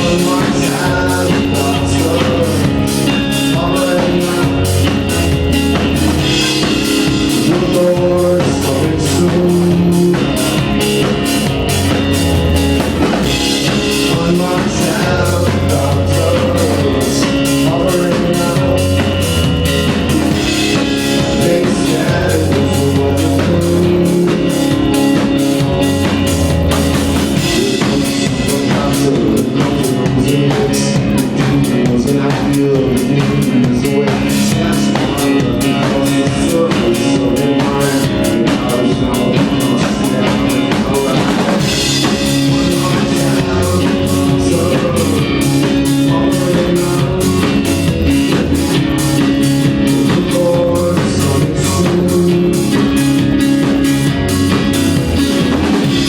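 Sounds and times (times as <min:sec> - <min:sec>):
drums steady busy beat: 0:00.0 - 0:56.0
live band playing: 0:00.0 - 0:56.0
long low bass notes: 0:00.0 - 0:56.0.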